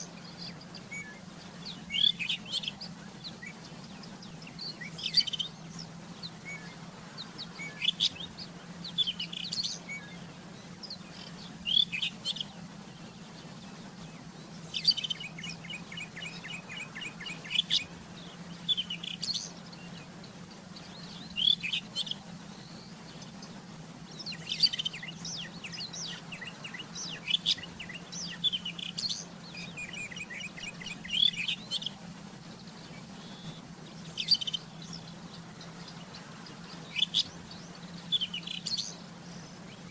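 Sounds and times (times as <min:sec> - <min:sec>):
bird singing whistles and trills: 0:00.0 - 0:39.9
steady low hum: 0:00.0 - 0:39.9.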